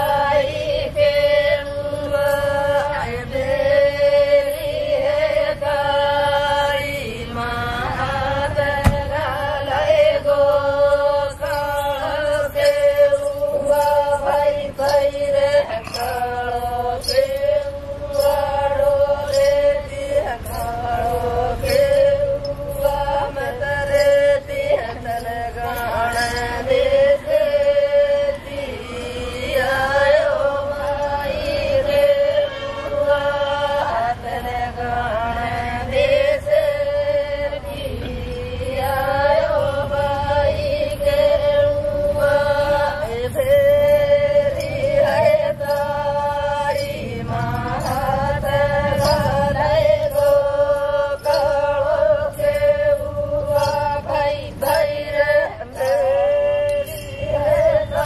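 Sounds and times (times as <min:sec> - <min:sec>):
group chant-like folk singing: 0:00.0 - 0:58.0.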